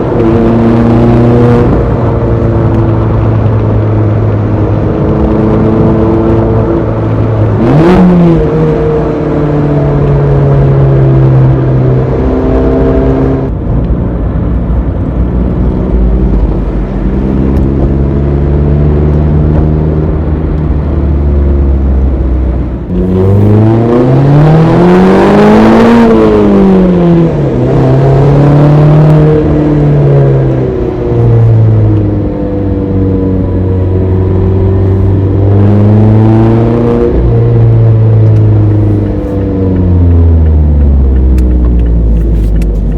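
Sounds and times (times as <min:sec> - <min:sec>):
car engine revving through gears: 0:00.0 - 0:13.5, 0:15.0 - 0:42.9.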